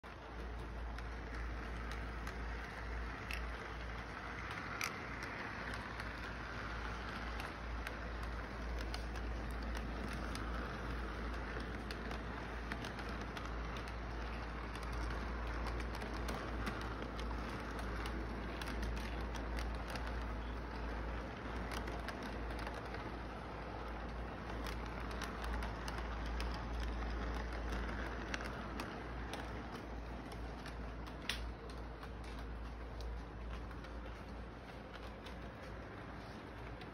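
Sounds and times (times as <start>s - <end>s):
model train rumbling on track: 0.0s - 36.9s
small clicks: 0.1s - 36.9s.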